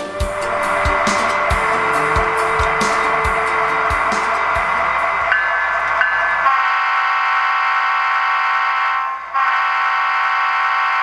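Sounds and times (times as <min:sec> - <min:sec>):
model locomotive horn blasts: 0:00.0 - 0:11.0.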